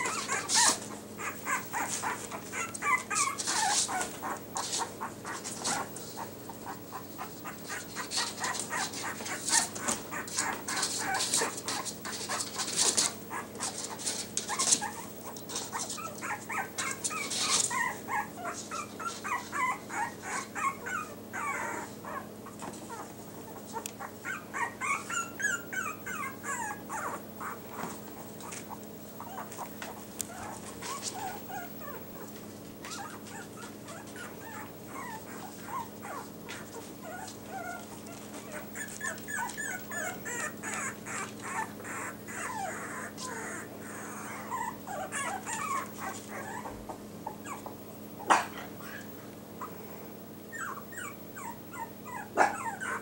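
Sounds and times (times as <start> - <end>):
puppies squeaking and whimpering: 0.0 - 49.8, 50.5 - 53.0.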